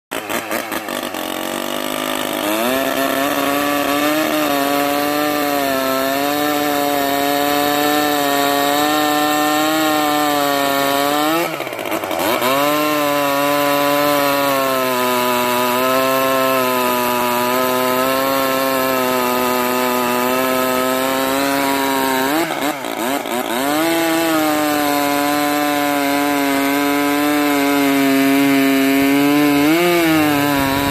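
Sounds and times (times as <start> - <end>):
chainsaw revving and cutting: 0.1 - 30.9.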